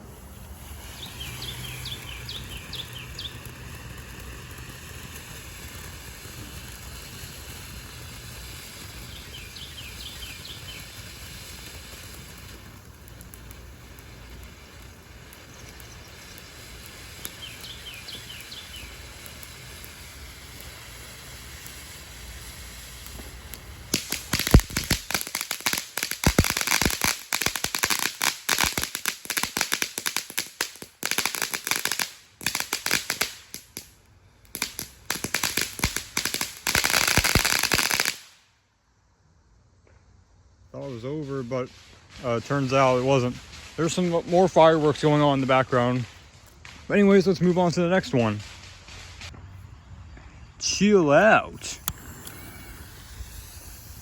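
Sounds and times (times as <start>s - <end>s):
firework rapid crackling: 0.0s - 38.6s, 40.6s - 54.0s
firework hissing: 0.0s - 54.0s.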